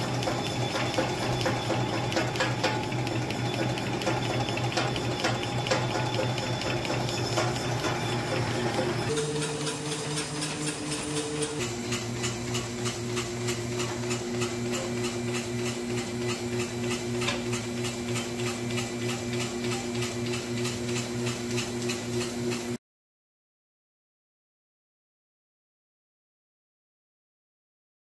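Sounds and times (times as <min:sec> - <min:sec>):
steady motor hum: 0:00.0 - 0:22.8.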